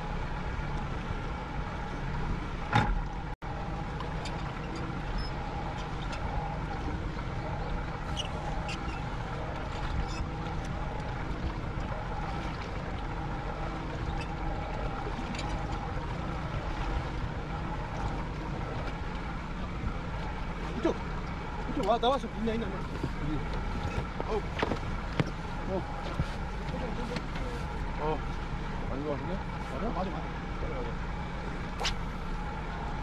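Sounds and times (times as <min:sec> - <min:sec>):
boat engine hum: 0:00.0 - 0:33.0
water: 0:00.0 - 0:33.0
wind: 0:00.0 - 0:33.0.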